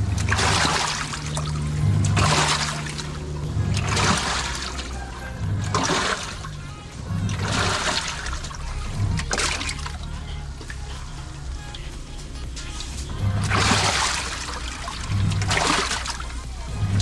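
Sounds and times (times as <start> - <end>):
washing machine water swishing: 0.0 - 17.0.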